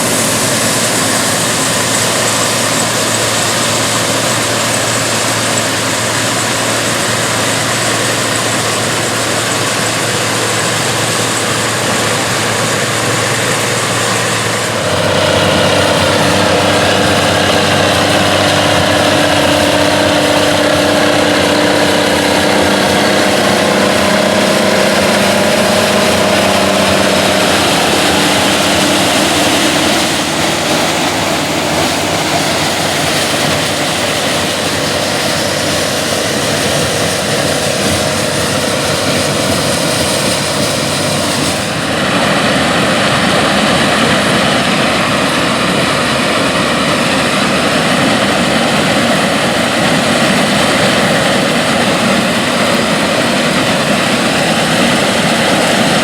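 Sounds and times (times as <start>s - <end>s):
combine harvester engines running: 0.0s - 56.0s
loud engine drone: 0.0s - 56.0s.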